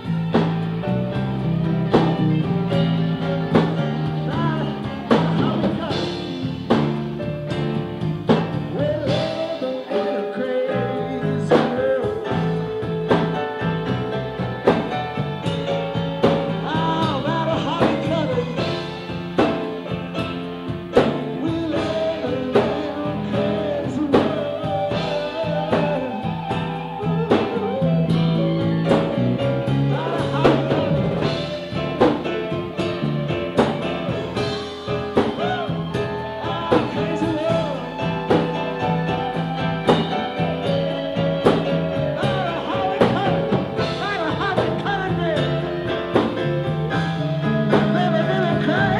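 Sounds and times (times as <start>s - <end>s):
bass: 0.0s - 48.9s
drum kit beat: 0.0s - 48.9s
electric guitar: 0.0s - 48.9s.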